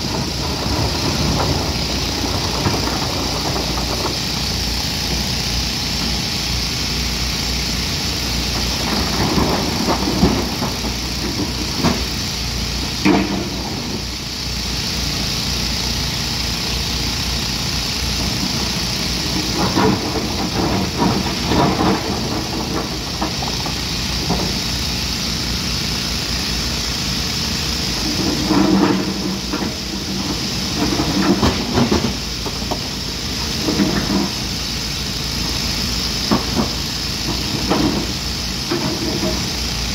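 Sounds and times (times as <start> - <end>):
excavator clatter: 0.0 - 39.9
excavator diesel engine running: 0.0 - 39.9.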